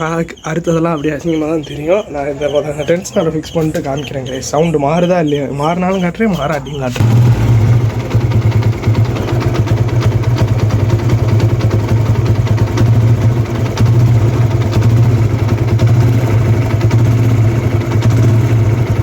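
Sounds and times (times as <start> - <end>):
motorcycle engine idling: 0.0 - 19.0
rapid engine ticking: 0.0 - 19.0.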